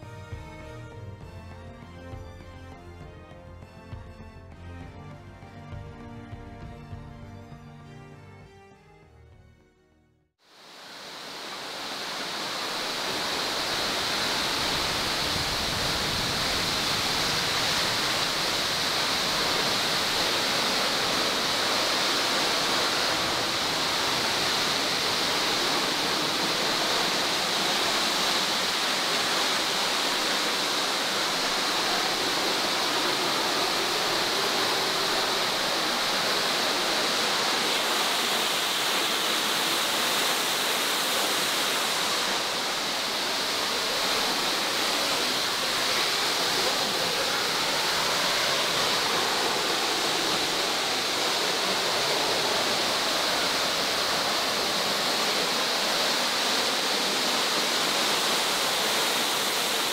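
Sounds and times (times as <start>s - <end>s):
waterfall rushing: 10.5s - 59.9s.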